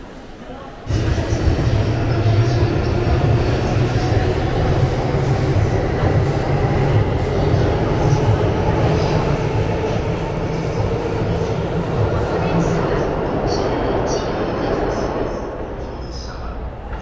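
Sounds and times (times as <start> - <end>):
train wheels rumbling on rail: 0.9 - 17.0.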